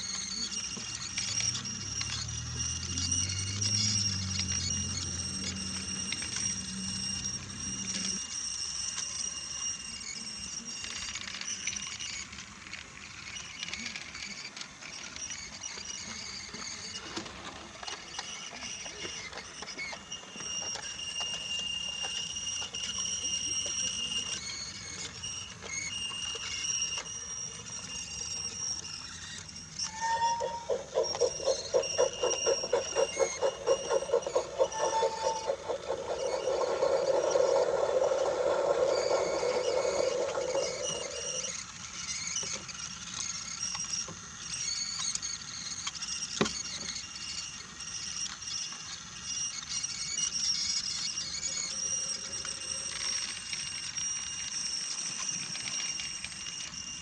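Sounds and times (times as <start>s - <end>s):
toy train rolling on wooden track: 0.0s - 57.0s.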